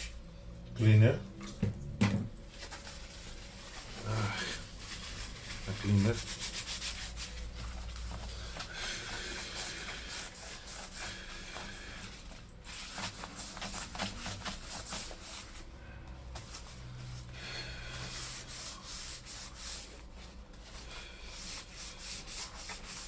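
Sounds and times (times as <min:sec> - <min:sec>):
rubbing and wiping on laptop casing: 0:02.5 - 0:15.8, 0:16.4 - 0:23.0.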